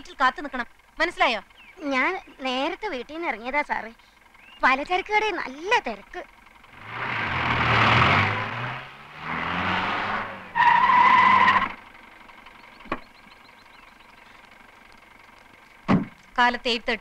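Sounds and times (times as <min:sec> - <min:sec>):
car engine: 0:00.0 - 0:17.0.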